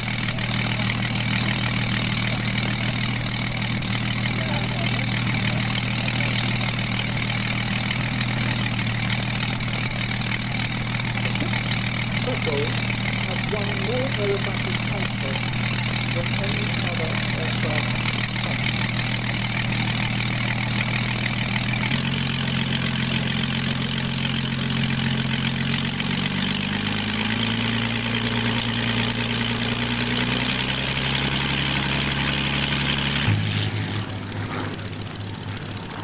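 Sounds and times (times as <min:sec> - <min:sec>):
piston aero engine idling: 0:00.0 - 0:36.0.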